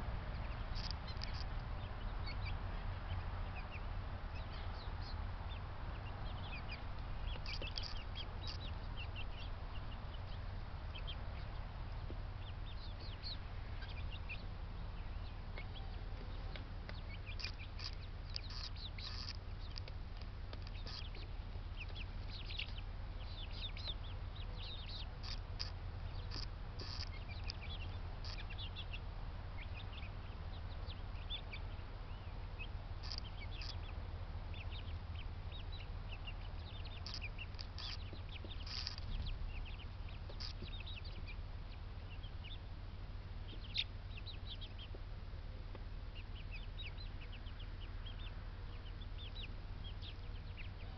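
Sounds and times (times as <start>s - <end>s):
poultry chirping and clucking: 0.0s - 50.9s
steady low hum: 0.0s - 50.9s.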